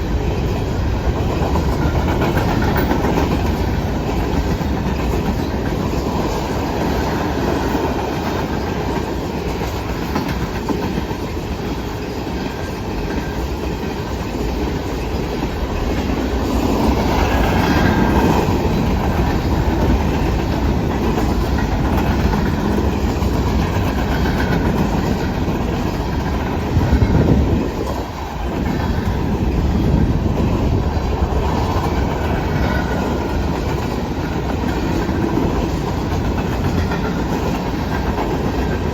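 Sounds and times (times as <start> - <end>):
freight train rumbling past: 0.0 - 38.9
wheels clacking over rail joints: 0.0 - 38.9.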